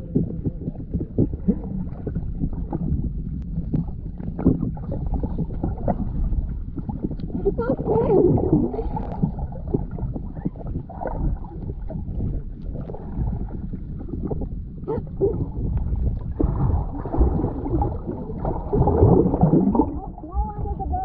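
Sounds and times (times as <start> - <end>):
underwater clicks and crackles: 0.0 - 21.0
underwater water sloshing: 0.0 - 21.0.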